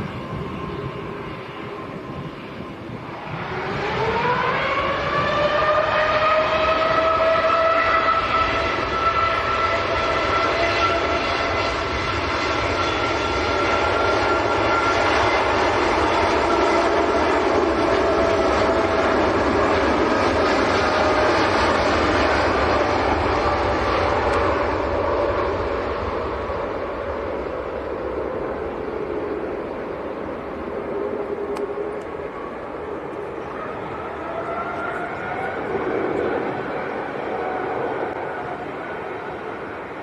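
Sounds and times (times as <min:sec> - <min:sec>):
jet engine rush: 0:00.0 - 0:40.0
jet engine whine: 0:00.0 - 0:40.0.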